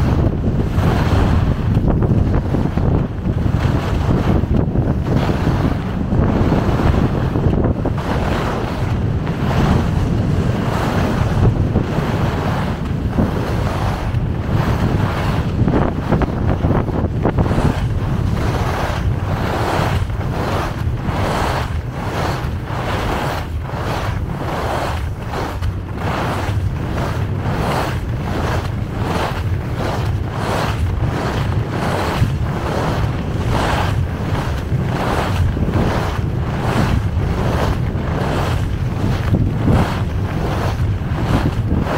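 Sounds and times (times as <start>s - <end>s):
skis scraping on snow: 0.0s - 41.9s
wind rumbling on microphone: 0.0s - 41.9s
rhythmic scraping: 6.4s - 41.9s.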